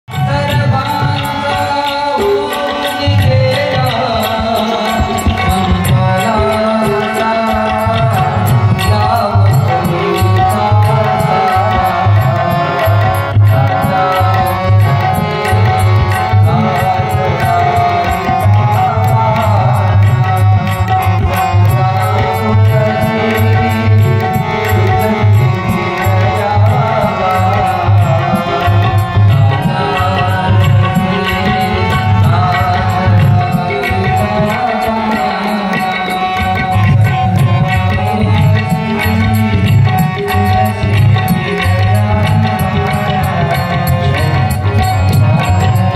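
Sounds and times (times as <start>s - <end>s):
tabla playing fast rhythm: 0.0s - 45.9s.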